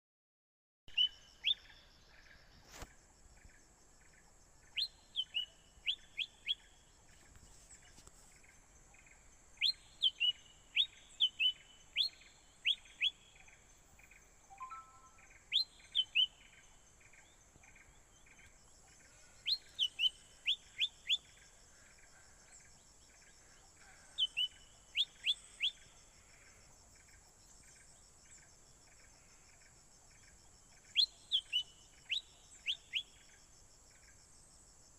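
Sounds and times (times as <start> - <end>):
songbird calling: 0.9 - 2.8, 4.1 - 34.2.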